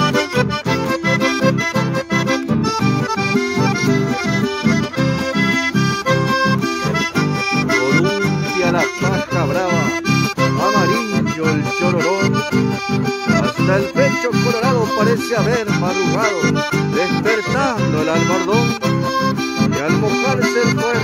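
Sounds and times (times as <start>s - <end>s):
button accordion playing: 0.0s - 21.0s.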